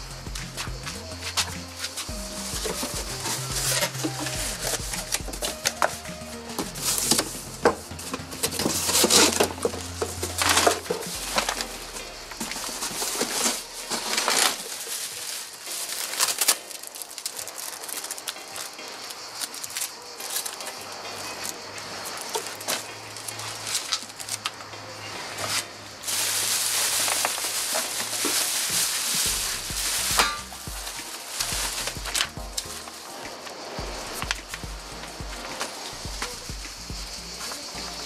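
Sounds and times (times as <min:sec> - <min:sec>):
bubble wrap crinkling: 0:00.0 - 0:24.6, 0:25.4 - 0:38.0.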